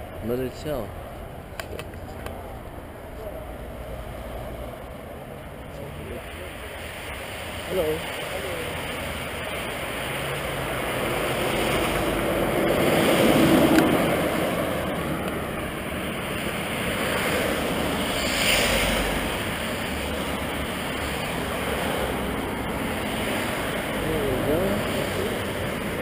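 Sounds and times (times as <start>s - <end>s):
road traffic: 0.0s - 26.0s
wind: 0.0s - 26.0s.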